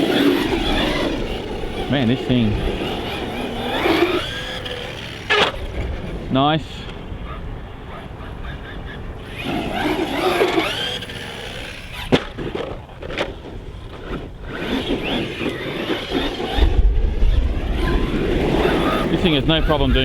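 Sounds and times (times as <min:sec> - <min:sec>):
toy truck hitting ground: 0:00.0 - 0:06.1, 0:09.2 - 0:19.2
electric motor whining: 0:00.0 - 0:20.0.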